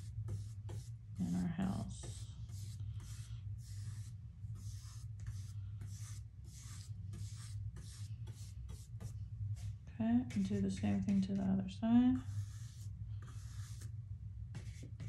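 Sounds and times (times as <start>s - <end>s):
paintbrush scratching canvas: 0.0s - 11.3s, 12.2s - 15.0s
low steady hum: 0.0s - 15.0s.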